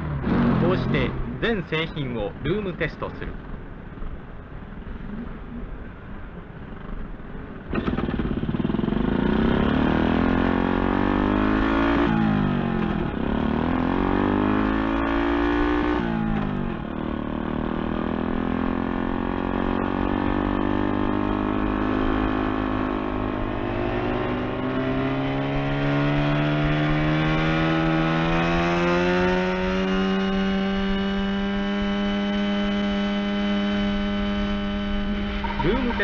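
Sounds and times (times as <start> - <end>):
motorcycle engine revving: 0.0 - 1.6, 7.6 - 36.0.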